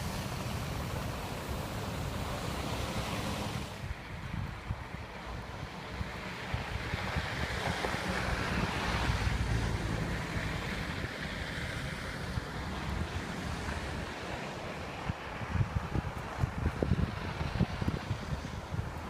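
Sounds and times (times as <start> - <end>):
wind gusting on microphone: 0.0 - 19.0.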